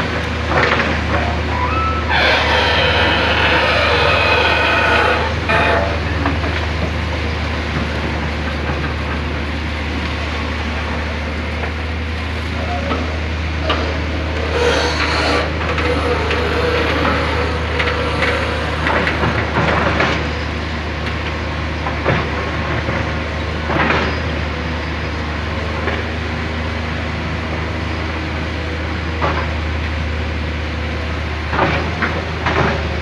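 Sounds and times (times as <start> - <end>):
excavator engine drone: 0.0 - 33.0.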